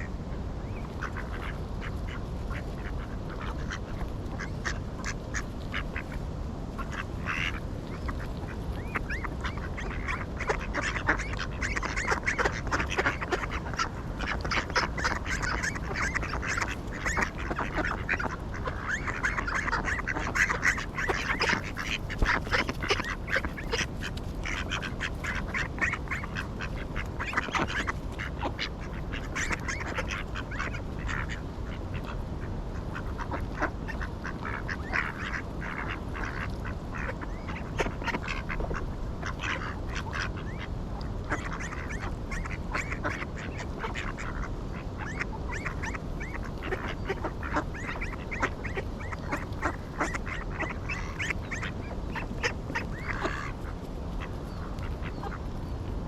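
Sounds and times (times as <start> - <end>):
ducks quacking: 0.0 - 56.0
steady low background noise: 0.0 - 56.0.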